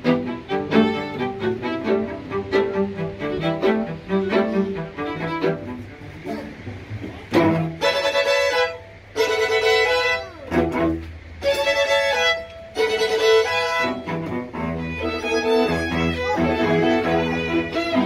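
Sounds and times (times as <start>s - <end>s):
string quartet playing: 0.0s - 18.0s.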